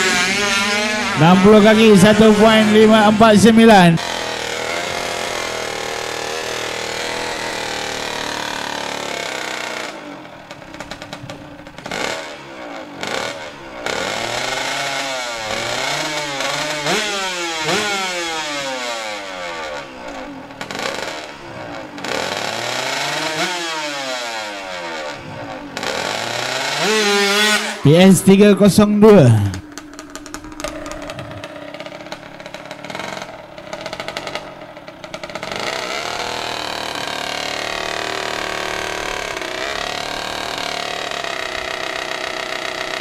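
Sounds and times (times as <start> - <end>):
motorcycle engine revving: 0.0 - 27.9, 29.2 - 43.0.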